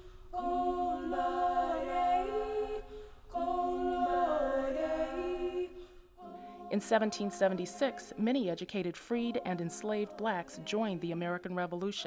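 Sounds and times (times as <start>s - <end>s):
voices singing held chords: 0.0s - 11.9s.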